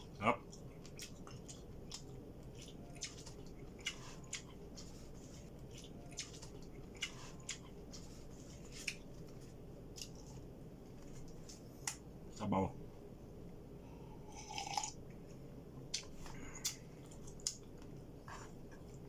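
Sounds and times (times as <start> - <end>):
faint room noise: 0.0 - 19.0.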